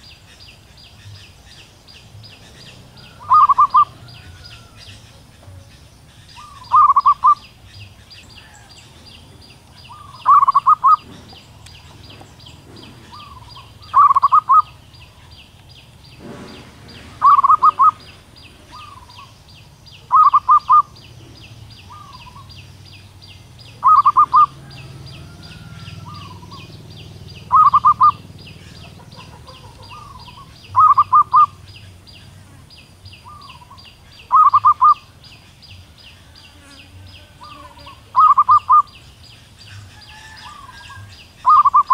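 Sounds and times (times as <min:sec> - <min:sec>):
dove cooing trills: 0:00.0 - 0:15.4, 0:16.2 - 0:22.7, 0:23.6 - 0:41.9.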